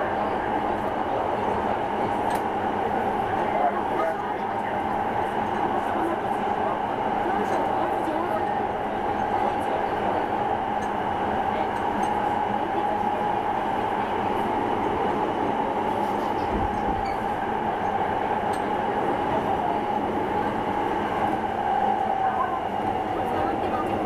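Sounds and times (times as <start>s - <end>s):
subway car rumble: 0.0s - 24.0s.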